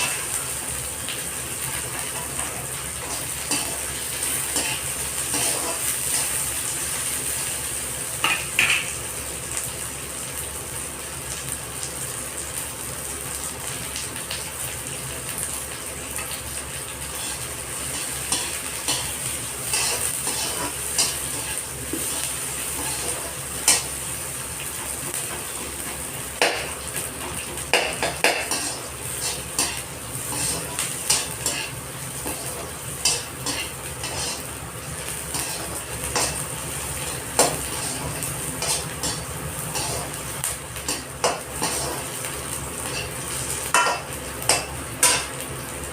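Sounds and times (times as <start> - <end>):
rice sizzling in a pan: 0.0 - 45.9.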